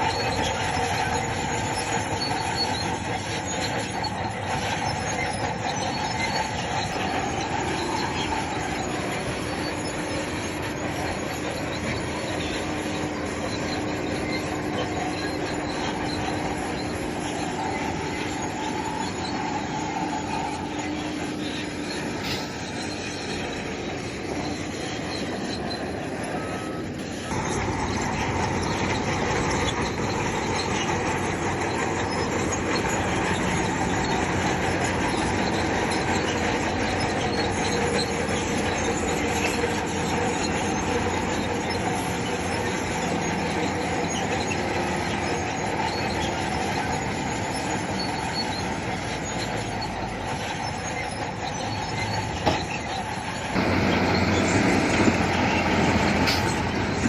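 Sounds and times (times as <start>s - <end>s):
diesel engine running: 0.0s - 57.0s
steel tracks squealing and clanking: 0.0s - 57.0s.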